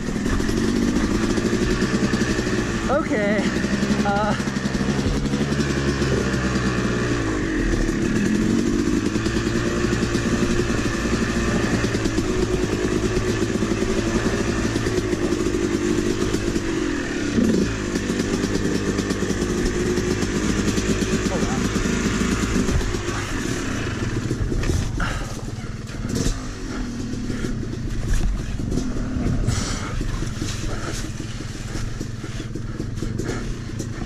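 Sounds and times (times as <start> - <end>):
two-stroke dirt bike engine: 0.0 - 34.0.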